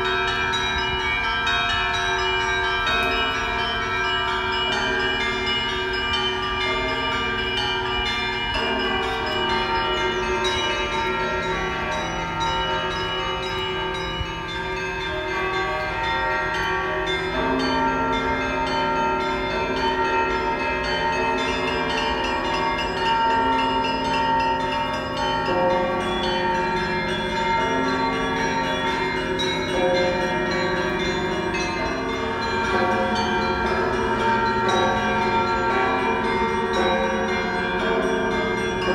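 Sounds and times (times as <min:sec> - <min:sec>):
church bells pealing: 0:00.0 - 0:38.9
deeper bell ringing: 0:00.0 - 0:38.9.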